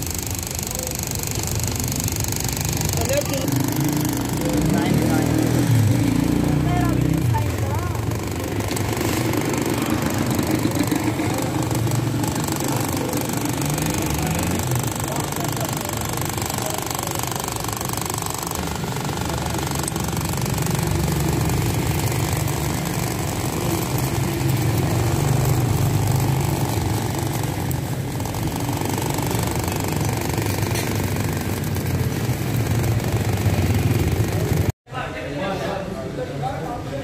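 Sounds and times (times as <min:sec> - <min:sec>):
machine rattling: 0:00.0 - 0:34.7.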